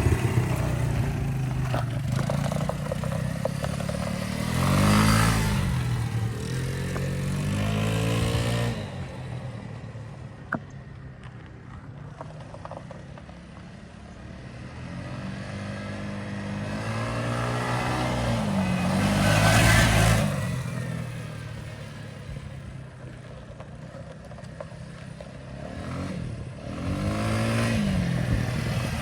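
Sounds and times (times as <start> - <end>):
quad bike engine passing by: 0.0 - 29.0.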